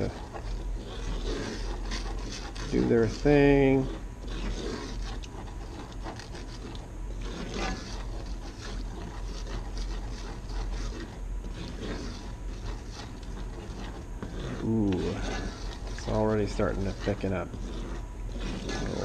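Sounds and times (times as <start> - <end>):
wooden spoon scraping skillet: 0.0 - 19.0.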